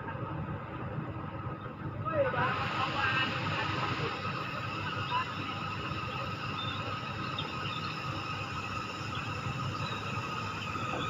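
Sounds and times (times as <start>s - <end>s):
diesel engine running: 0.0s - 11.0s
steady high whine: 0.0s - 11.0s.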